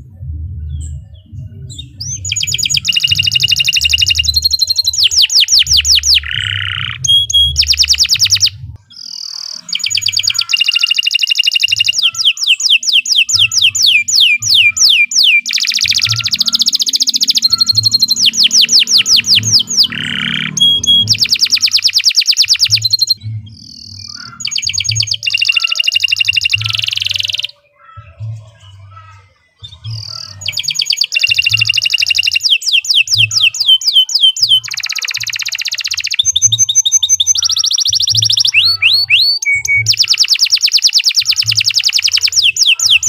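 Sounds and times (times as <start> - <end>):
canary singing trills: 0.7 - 43.0.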